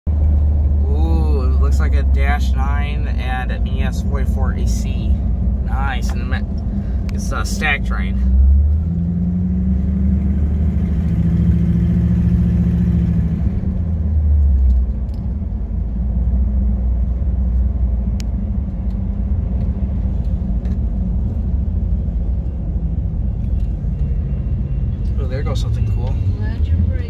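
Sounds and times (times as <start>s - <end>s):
truck engine and road rumble: 0.0s - 27.0s.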